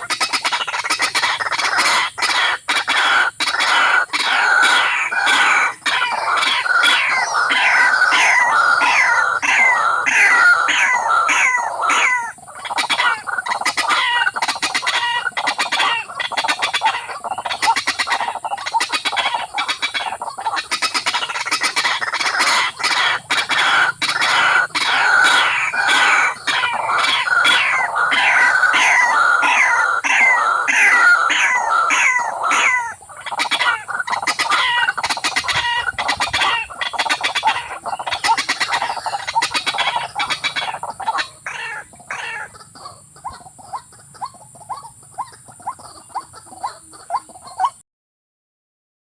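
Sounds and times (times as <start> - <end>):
rail bird calling: 0.0 - 47.8.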